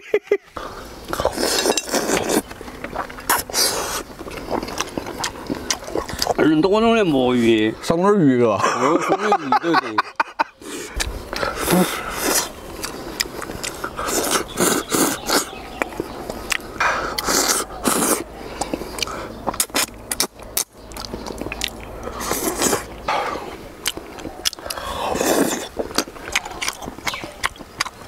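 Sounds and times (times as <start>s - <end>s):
man biting and chewing food: 0.6s - 6.5s, 10.6s - 28.0s.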